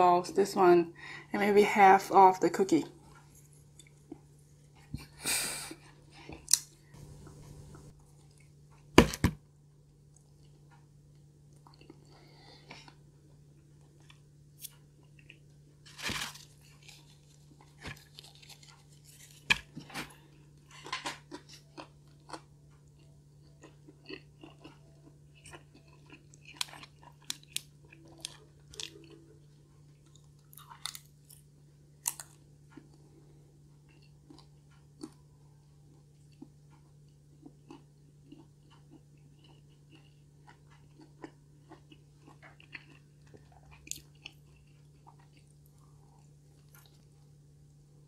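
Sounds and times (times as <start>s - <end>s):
person chewing with crunches: 3.0s - 9.1s, 10.0s - 47.8s.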